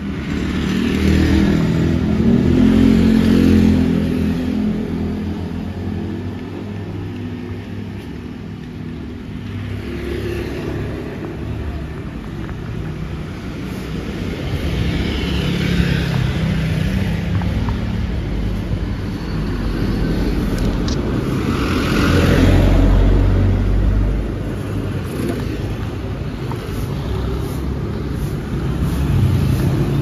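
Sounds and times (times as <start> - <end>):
motor scooters passing: 0.0 - 30.0.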